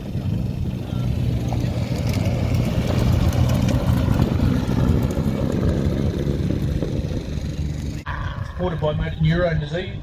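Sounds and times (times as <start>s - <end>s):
rally car engine running: 0.0s - 8.0s.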